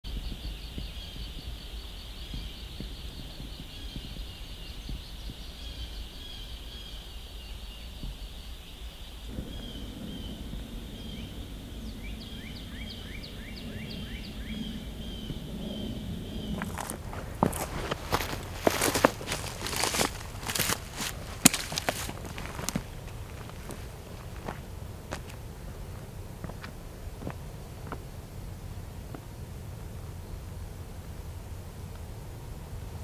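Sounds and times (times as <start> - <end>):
birds chirping: 0.0 - 30.9
low steady rumble: 0.1 - 33.0.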